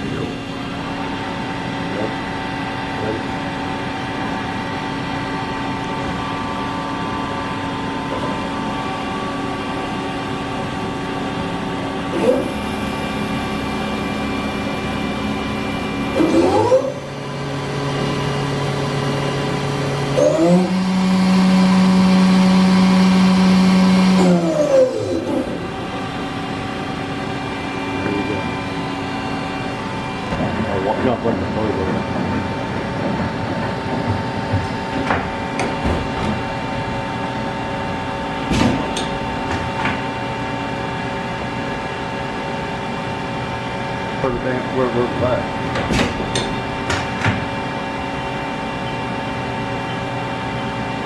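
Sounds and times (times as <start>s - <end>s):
cnc machine humming: 0.0s - 51.0s.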